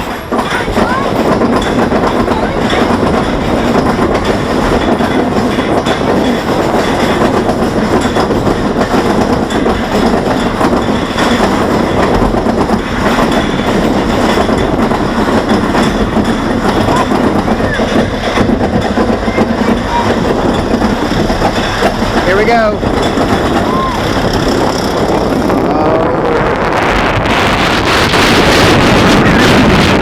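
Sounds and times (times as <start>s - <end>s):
roller coaster train rattling on track: 0.0s - 30.0s.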